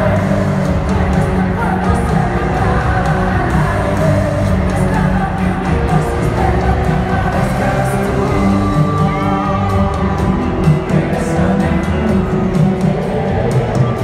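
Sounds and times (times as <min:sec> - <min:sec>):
lead vocal singing: 0:00.0 - 0:14.0
live rock band playing: 0:00.0 - 0:14.0.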